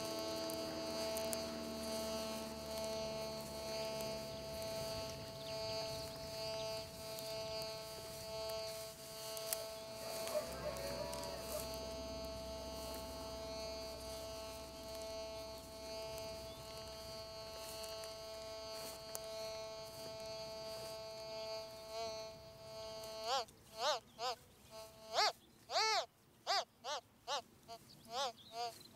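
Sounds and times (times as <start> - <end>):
metal detector electronic buzz: 0.0 - 28.8.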